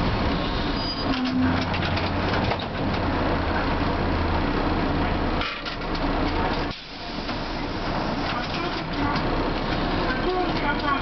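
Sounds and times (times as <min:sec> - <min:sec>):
passing road traffic: 0:00.0 - 0:11.0
streetcar equipment humming: 0:00.0 - 0:11.0.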